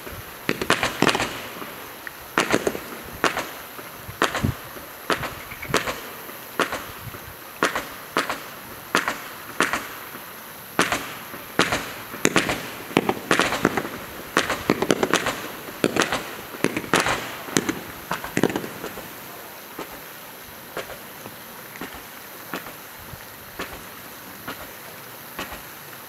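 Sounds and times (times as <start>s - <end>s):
firework barrage cracks: 0.0s - 25.9s.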